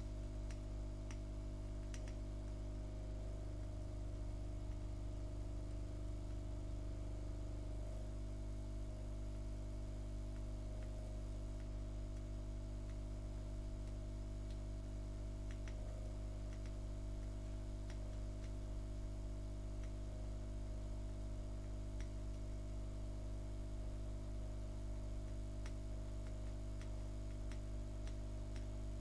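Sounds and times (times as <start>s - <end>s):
low electrical hum with tones: 0.0s - 29.0s
faint small clicks: 0.3s - 6.6s, 10.0s - 18.8s, 19.7s - 23.0s, 23.6s - 29.0s.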